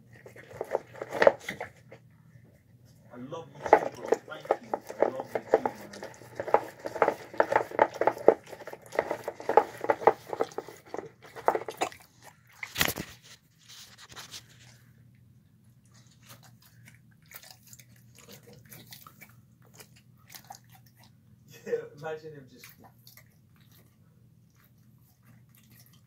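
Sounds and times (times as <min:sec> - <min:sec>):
dog licking food bowl: 0:00.0 - 0:13.2, 0:15.7 - 0:21.5, 0:22.5 - 0:26.0
dog chewing and lip-smacking: 0:00.0 - 0:21.5, 0:22.5 - 0:26.0.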